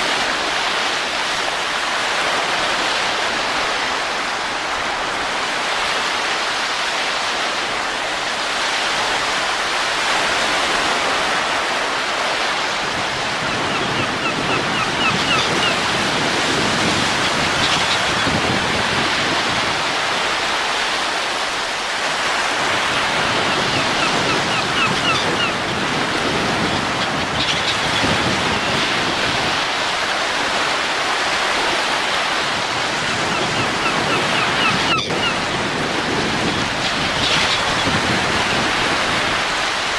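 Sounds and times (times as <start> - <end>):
rushing wind in gusts: 0.0 - 39.9.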